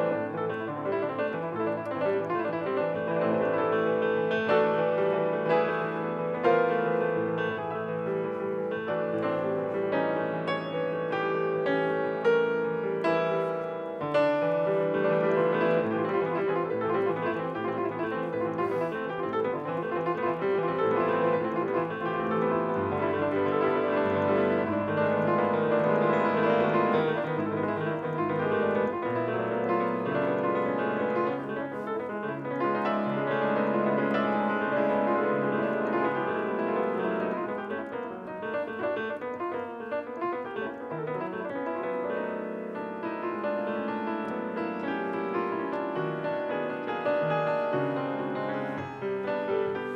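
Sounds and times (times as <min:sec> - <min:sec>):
solo grand piano: 0:00.0 - 0:49.9.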